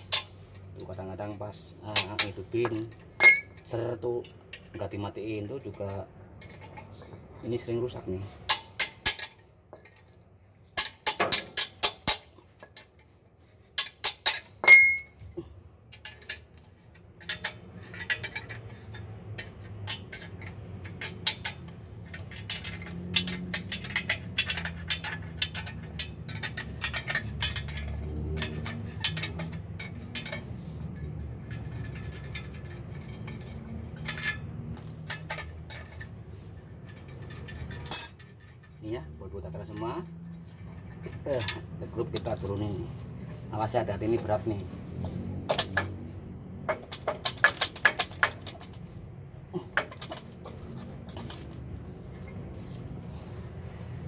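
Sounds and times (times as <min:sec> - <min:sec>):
wrench clinking on bolts: 0:00.0 - 0:54.0.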